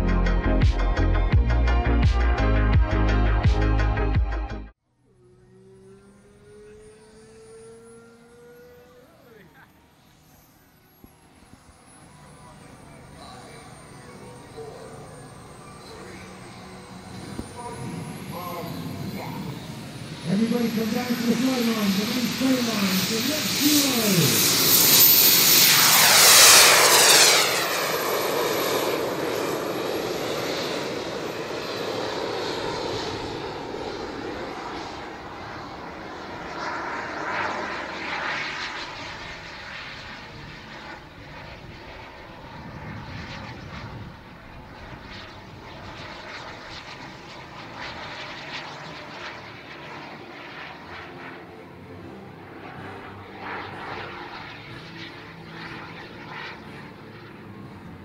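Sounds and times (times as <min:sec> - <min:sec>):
model jet turbines roaring: 0:05.0 - 0:58.0.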